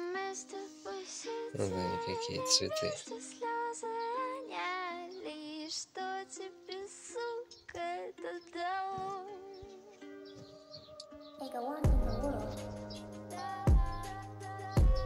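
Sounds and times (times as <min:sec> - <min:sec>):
high voice singing slow melody: 0:00.0 - 0:15.0.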